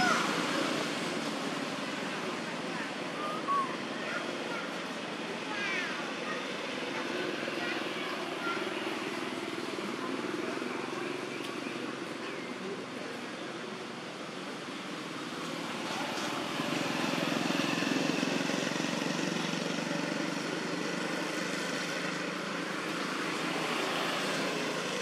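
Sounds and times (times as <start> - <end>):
distant engine drone: 0.0 - 25.0.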